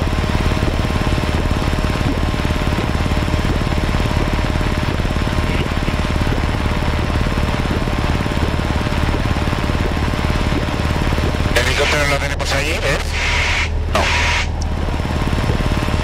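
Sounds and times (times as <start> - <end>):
aircraft propeller engine throbbing: 0.0 - 16.0.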